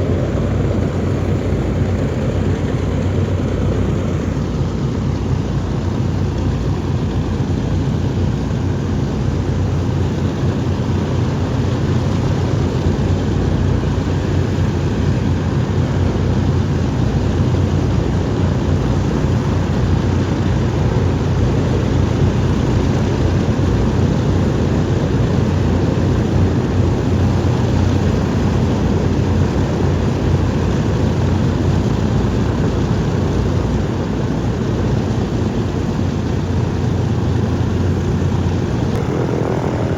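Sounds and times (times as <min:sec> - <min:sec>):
propeller engines droning: 0:00.0 - 0:39.9.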